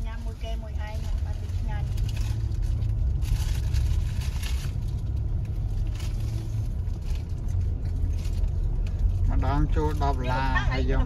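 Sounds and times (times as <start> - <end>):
car driving on paved road: 0.0 - 11.0.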